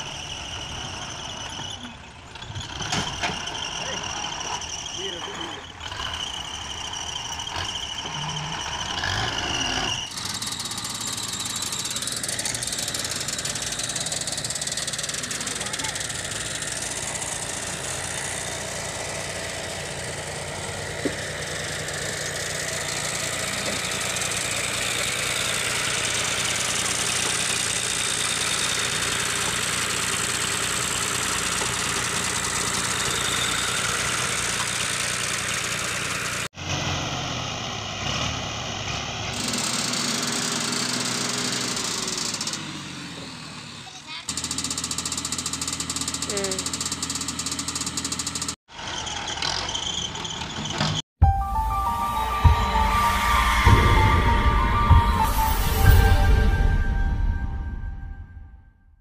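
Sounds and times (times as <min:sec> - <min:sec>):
tractor diesel engine running: 0:00.0 - 0:57.6.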